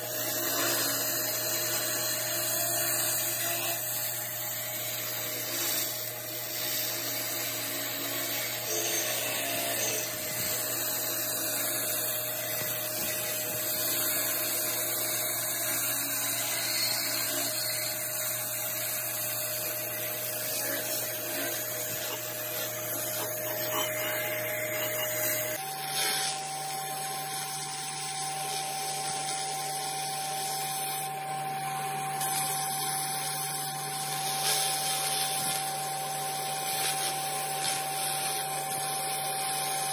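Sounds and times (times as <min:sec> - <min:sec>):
laser cleaning machine hissing: 0:00.0 - 0:39.9.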